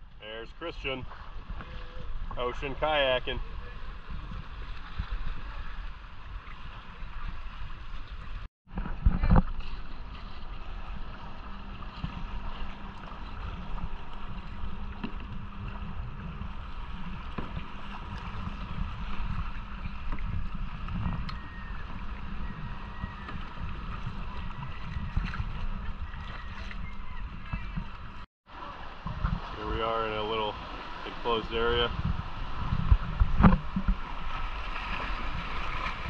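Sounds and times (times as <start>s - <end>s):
wind rumbling on microphone: 0.0s - 36.0s
water splashing around kayak: 0.1s - 36.0s.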